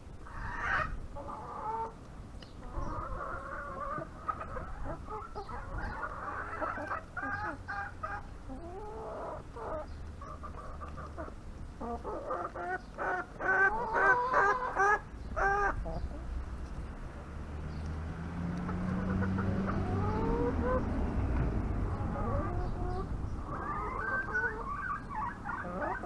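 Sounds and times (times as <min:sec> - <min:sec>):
hens clucking: 0:00.2 - 0:17.3, 0:18.4 - 0:26.0.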